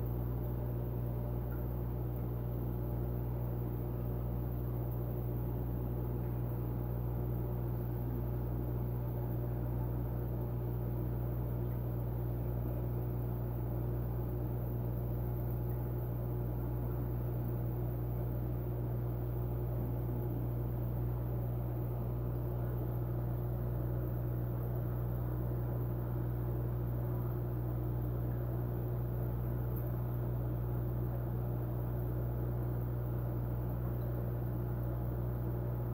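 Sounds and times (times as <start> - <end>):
aquarium pump humming: 0.0 - 35.9.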